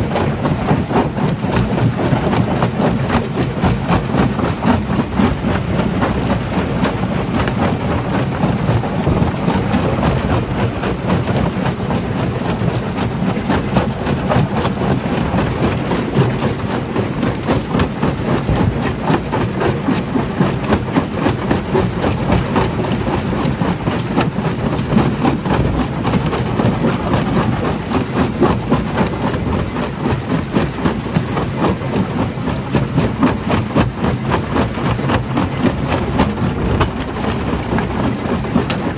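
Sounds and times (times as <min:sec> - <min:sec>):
heavy machinery drone: 0:00.0 - 0:38.9.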